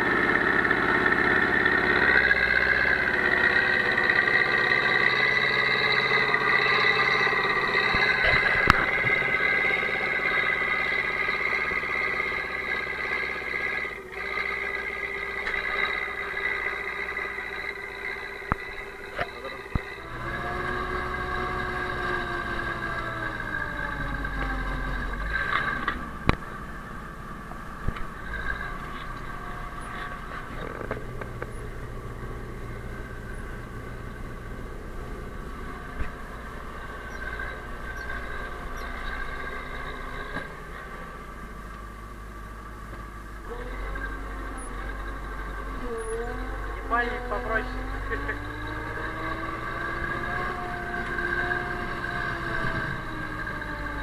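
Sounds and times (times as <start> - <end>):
diesel tractor engine under load: 0.0 - 54.0.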